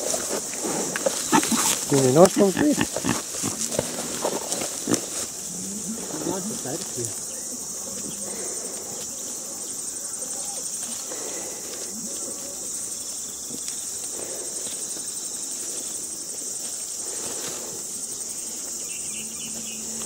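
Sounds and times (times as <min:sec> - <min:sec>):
rustling of bramble leaves: 0:00.0 - 0:19.0
insect chorus chirring: 0:00.0 - 0:20.0.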